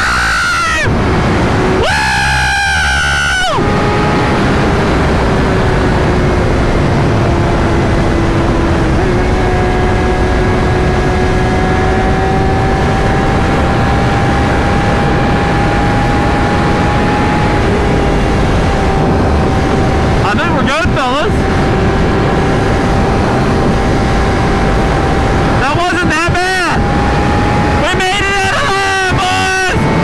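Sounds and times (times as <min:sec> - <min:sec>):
motorcycle engine: 0:00.0 - 0:30.0
wind rush on microphone: 0:00.0 - 0:30.0.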